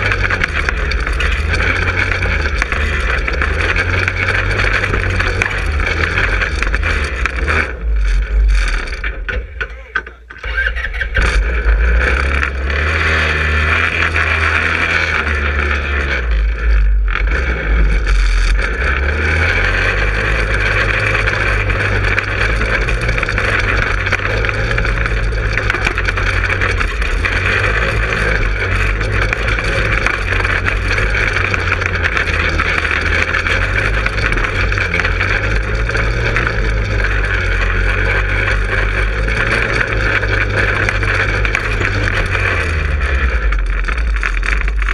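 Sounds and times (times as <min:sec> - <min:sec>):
go-kart engine revving: 0:00.0 - 0:44.9.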